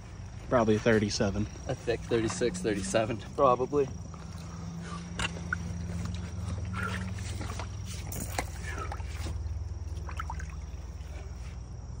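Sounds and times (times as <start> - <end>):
water sloshing and splashing: 0.0 - 11.8
steady low hum: 0.0 - 12.0.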